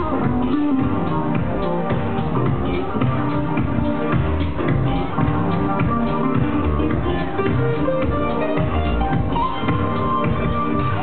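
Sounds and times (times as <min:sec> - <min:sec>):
club music with plucked notes and beat: 0:00.0 - 0:11.0.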